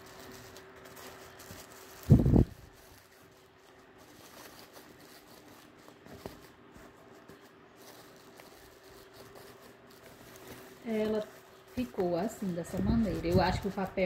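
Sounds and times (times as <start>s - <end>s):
tissue paper rustling: 0.0s - 14.0s.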